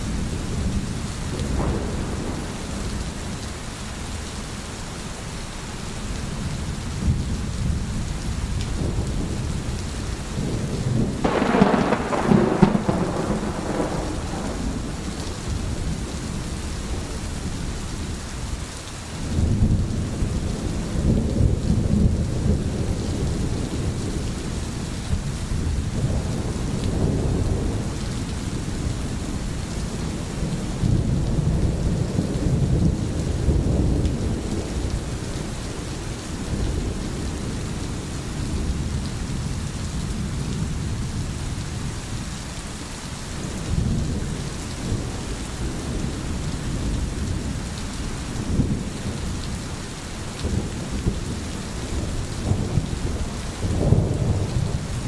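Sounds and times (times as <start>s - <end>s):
distant rolling thunder: 0.0s - 3.7s, 6.3s - 18.3s, 19.2s - 42.2s, 43.4s - 55.0s
rain hissing: 0.0s - 55.0s.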